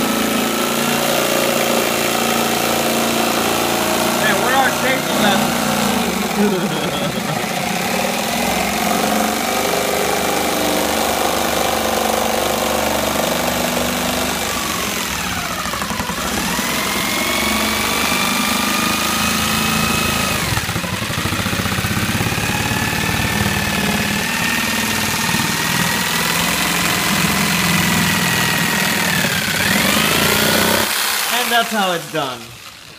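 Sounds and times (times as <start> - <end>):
jigsaw cutting plastic: 0.0 - 32.9.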